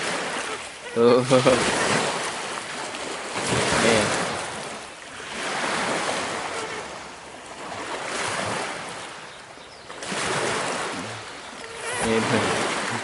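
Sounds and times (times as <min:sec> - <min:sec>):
waves washing onto stony shore: 0:00.0 - 0:13.0.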